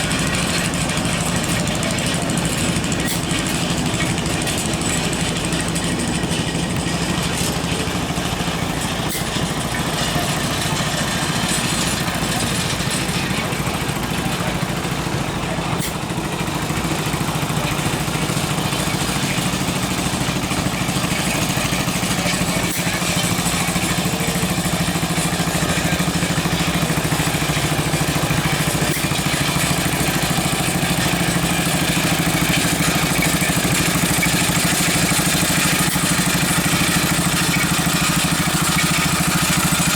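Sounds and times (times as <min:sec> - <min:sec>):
small tractor engine running: 0:00.0 - 0:39.9.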